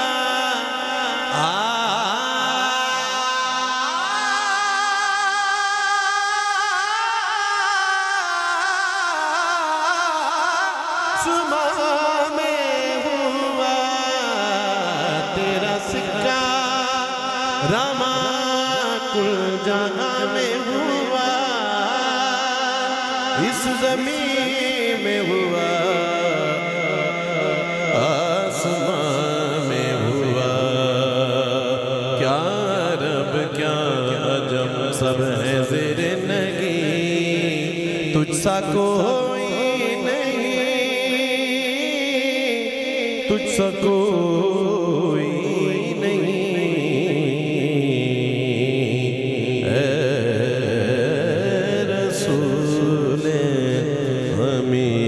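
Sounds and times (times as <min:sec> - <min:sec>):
man singing through sound system: 0:00.0 - 0:55.0.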